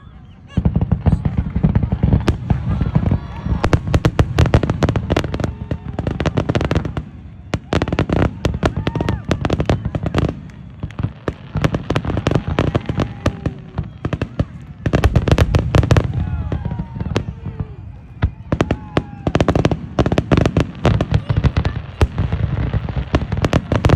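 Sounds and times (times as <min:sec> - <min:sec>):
fireworks bangs and crackles: 0:00.0 - 0:23.9.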